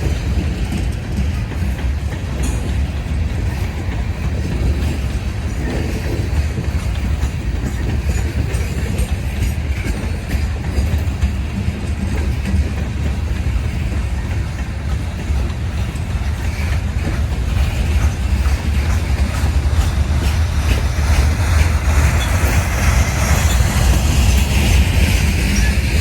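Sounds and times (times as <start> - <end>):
freight train rumbling on rails: 0.0 - 26.0
train wheels clickety-clack: 0.0 - 26.0.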